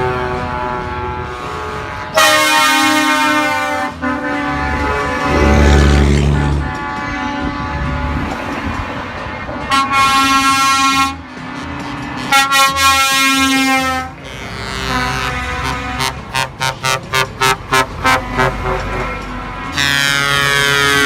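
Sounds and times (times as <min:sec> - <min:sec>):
truck air horn blasts: 0:00.0 - 0:08.5, 0:09.6 - 0:21.0
truck engines rumbling: 0:00.0 - 0:21.0.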